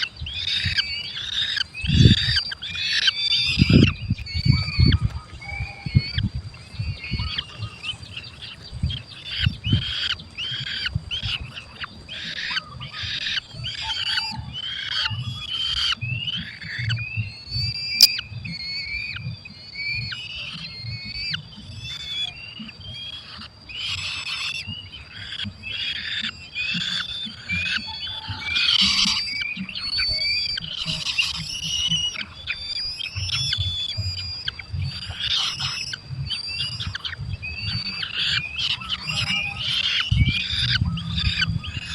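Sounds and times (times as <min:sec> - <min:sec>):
falcon nestlings squealing calls: 0:00.0 - 0:41.9.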